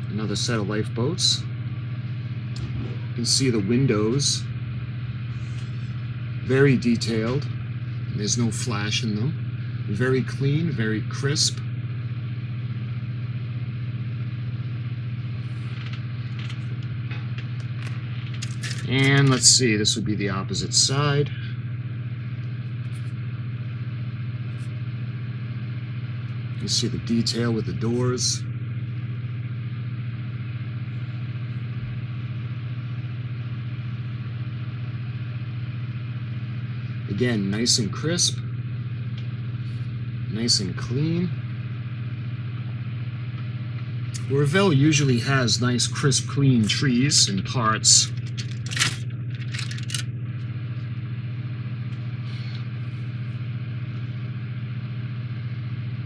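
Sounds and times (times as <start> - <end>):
low hum with overtones: 0.0 - 56.0.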